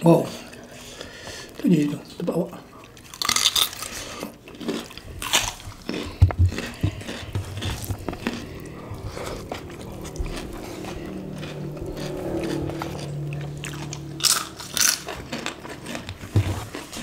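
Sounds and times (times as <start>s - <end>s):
crunchy bites and chewing: 3.0s - 17.0s.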